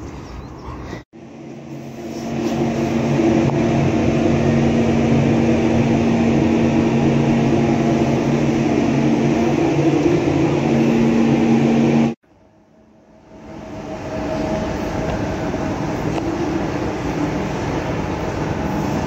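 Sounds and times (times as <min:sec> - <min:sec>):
elevator mechanical hum: 0:01.2 - 0:19.0.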